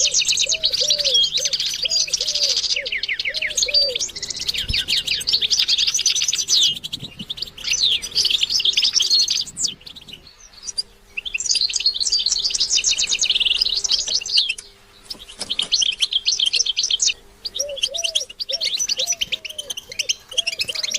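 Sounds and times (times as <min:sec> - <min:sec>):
goldfinch twittering song: 0:00.0 - 0:20.9
low bird call: 0:00.0 - 0:20.9.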